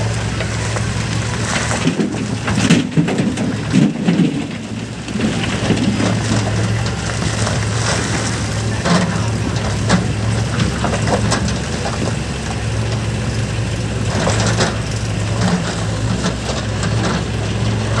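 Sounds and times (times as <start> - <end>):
clanks and knocks: 0.0 - 18.0
tractor engine running: 0.0 - 18.0.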